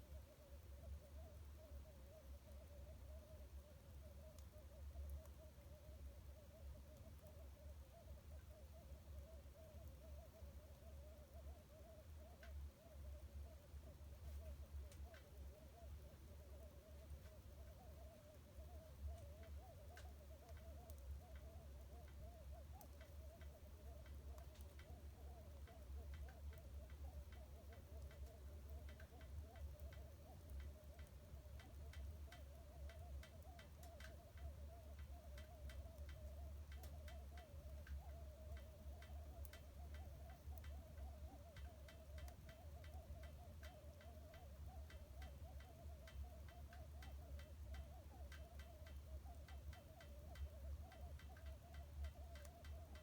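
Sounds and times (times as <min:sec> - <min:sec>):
faint low hum: 0:00.0 - 0:53.0
wood fire crackling: 0:09.4 - 0:53.0.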